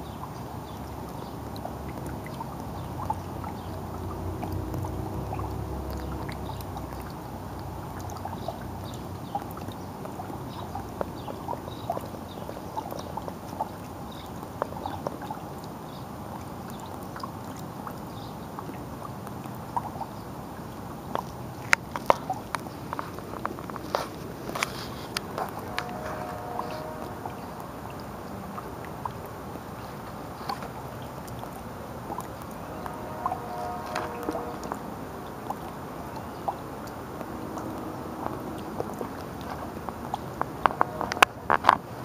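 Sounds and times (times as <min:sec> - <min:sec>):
raindrops dripping into puddle: 0:00.0 - 0:42.0
steady rain hiss: 0:00.0 - 0:42.0.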